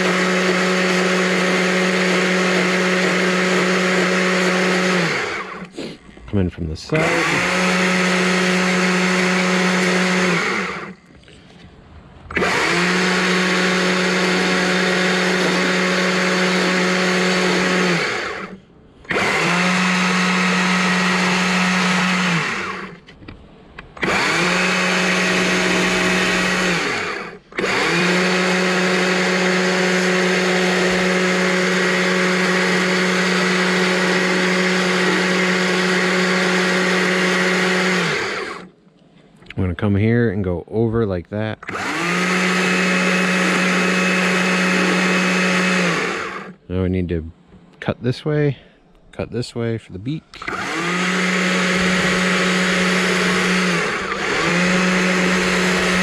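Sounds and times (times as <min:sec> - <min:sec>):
chainsaw cutting wood: 0:00.0 - 0:05.9, 0:06.9 - 0:11.0, 0:12.3 - 0:23.1, 0:23.9 - 0:38.7, 0:41.6 - 0:46.6, 0:50.4 - 0:56.0.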